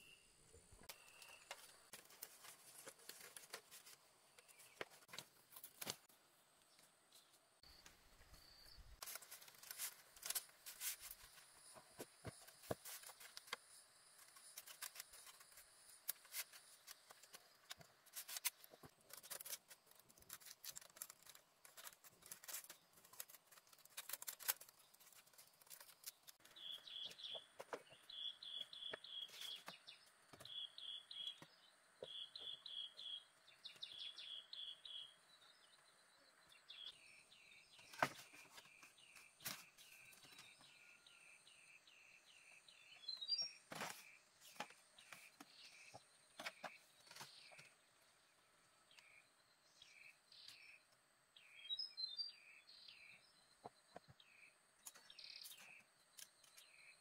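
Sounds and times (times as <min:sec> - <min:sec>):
bird chirping: 0:00.0 - 0:05.3, 0:06.7 - 0:57.0.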